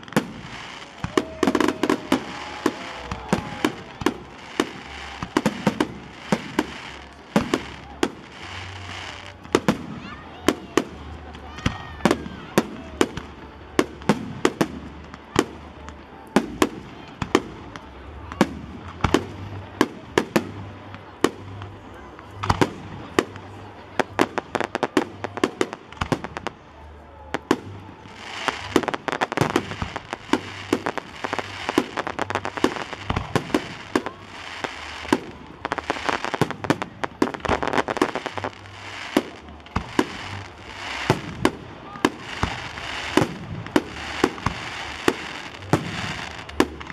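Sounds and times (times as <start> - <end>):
firework crackling: 0.0 - 46.9.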